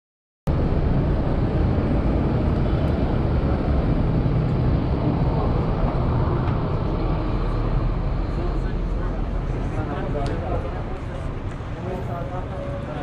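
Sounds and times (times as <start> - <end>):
traffic rumble: 0.5 - 13.0.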